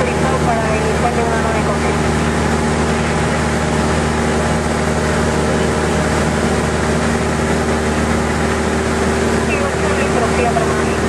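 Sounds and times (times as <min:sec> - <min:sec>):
airplane engine and propeller drone: 0:00.0 - 0:11.0.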